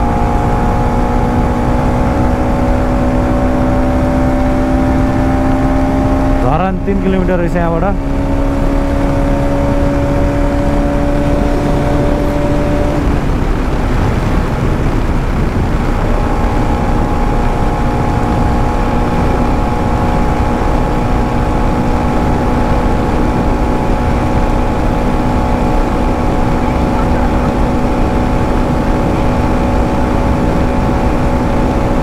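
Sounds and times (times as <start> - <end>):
motorcycle engine cruising: 0.0 - 32.0
wind rush on microphone: 0.0 - 32.0.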